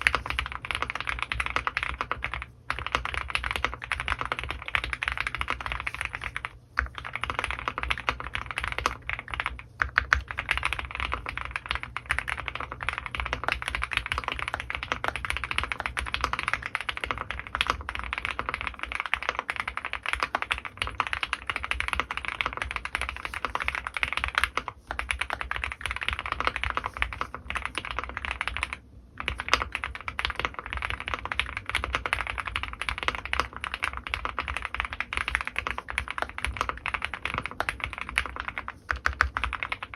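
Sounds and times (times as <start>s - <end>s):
rapid mechanical keyboard typing: 0.0s - 39.9s.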